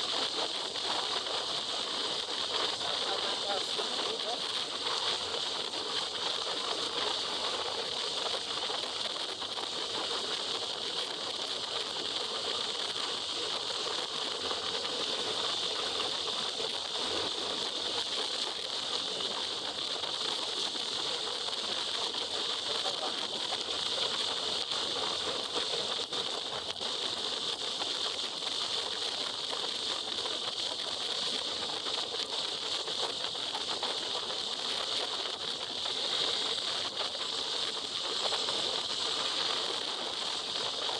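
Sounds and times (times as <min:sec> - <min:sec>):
wind and rain on microphone: 0:00.0 - 0:01.8, 0:02.4 - 0:40.9.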